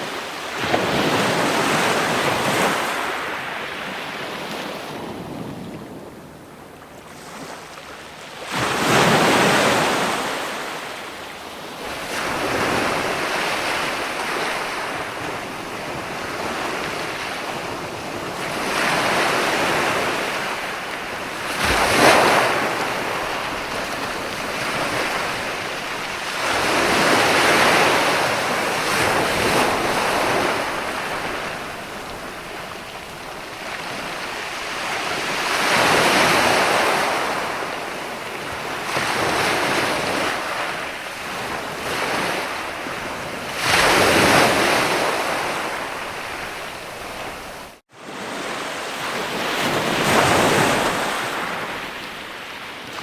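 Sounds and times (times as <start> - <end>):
ocean surf breaking: 0.0 - 7.7, 8.4 - 53.0.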